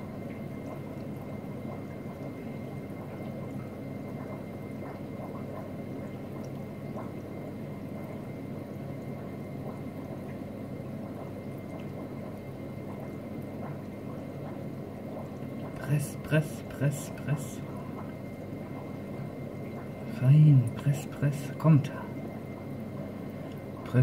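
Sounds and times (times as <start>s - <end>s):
aquarium water trickling: 0.0s - 24.0s
small water drips: 0.0s - 24.0s.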